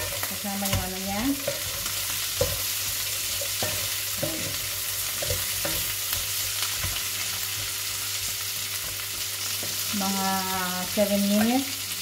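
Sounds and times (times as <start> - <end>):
meat and vegetables sizzling in pan: 0.0 - 12.0.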